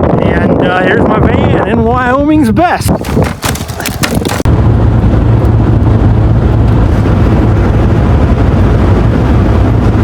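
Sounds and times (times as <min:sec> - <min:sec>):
van road and wind rumble: 0:00.0 - 0:10.0.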